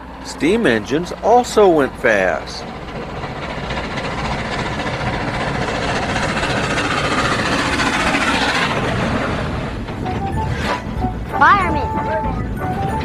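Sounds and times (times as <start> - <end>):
train running fast: 0.0 - 13.0.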